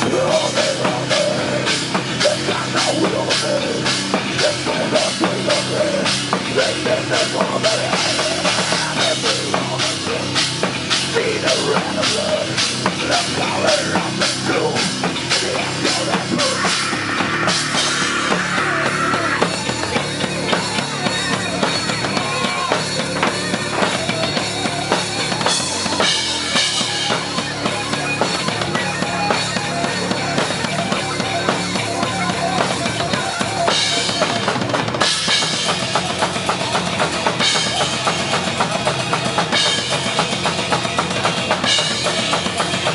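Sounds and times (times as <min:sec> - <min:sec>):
live heavy metal band: 0:00.0 - 0:42.9
pounding drum kit: 0:00.0 - 0:42.9.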